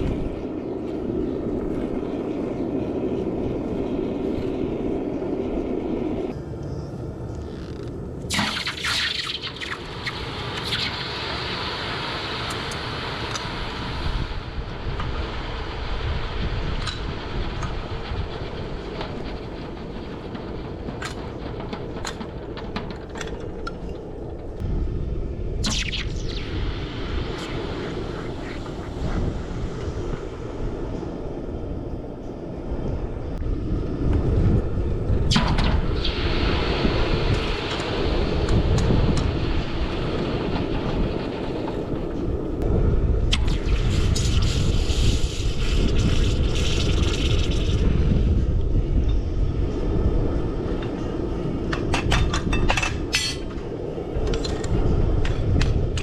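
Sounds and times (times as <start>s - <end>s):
wind buffeting microphone: 0.0s - 9.0s, 9.6s - 56.0s.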